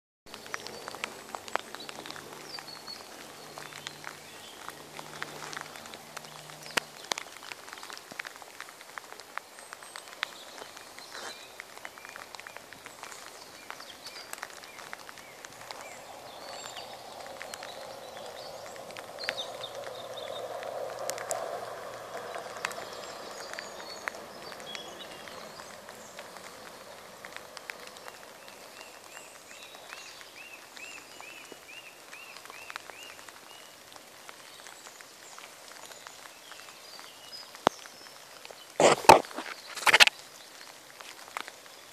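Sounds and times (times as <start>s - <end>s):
rain drops ticking: 0.3s - 41.9s
small birds chirping: 0.3s - 41.9s.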